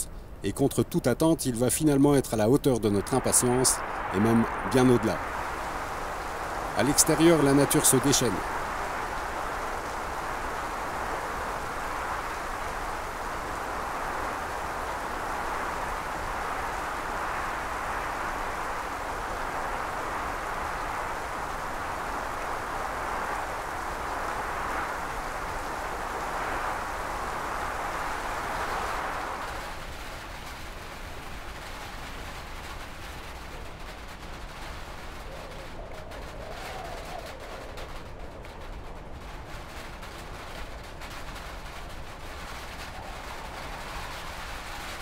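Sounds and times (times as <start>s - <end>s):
heavy rain on trees: 0.0s - 0.5s, 1.8s - 45.0s
wind: 0.0s - 45.0s.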